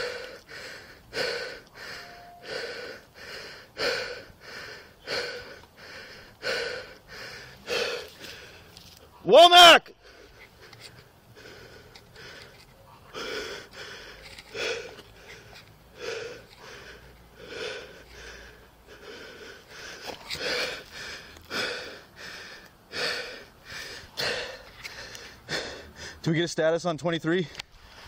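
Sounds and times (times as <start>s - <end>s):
man breathing hard: 0.0s - 8.8s, 9.9s - 26.2s.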